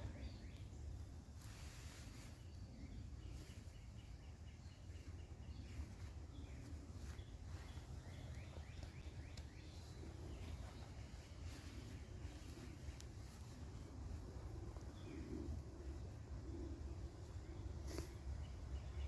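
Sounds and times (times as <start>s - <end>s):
low background rumble: 0.0s - 19.0s
songbirds chirping: 0.0s - 19.0s.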